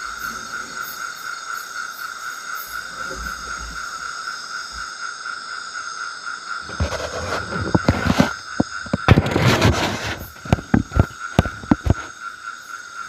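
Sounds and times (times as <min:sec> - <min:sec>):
insects and frogs chorus: 0:00.0 - 0:13.0.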